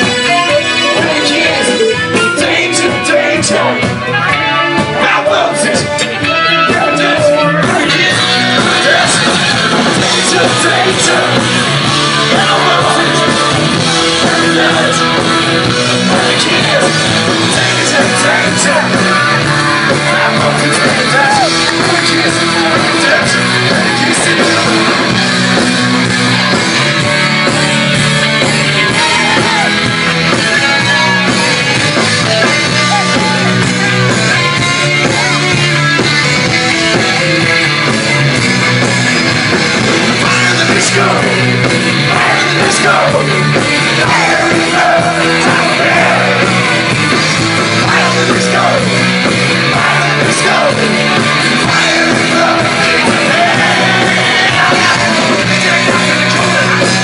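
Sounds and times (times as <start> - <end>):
person singing: 0.0 - 36.3, 40.1 - 57.0
rock band playing live: 0.0 - 57.0.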